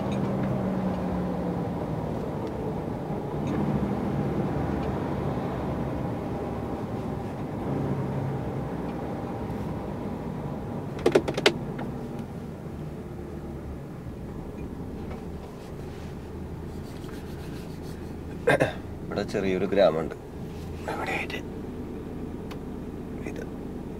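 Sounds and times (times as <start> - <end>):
lorry engine and road noise: 0.0 - 23.9.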